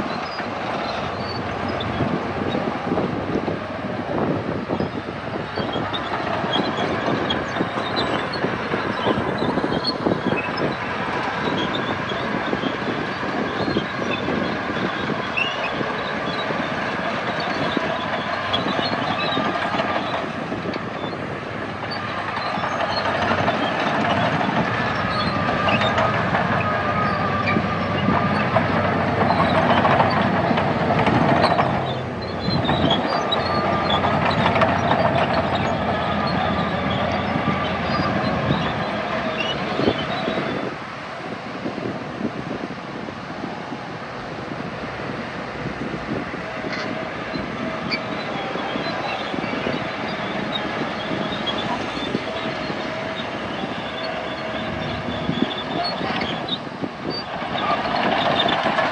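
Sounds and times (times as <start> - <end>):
diesel engine running: 0.0 - 58.9
steel tracks clanking and squealing: 0.0 - 58.9.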